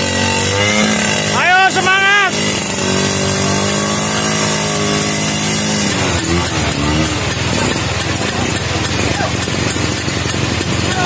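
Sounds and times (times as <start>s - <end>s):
two-stroke scooter engine revving: 0.0s - 11.0s.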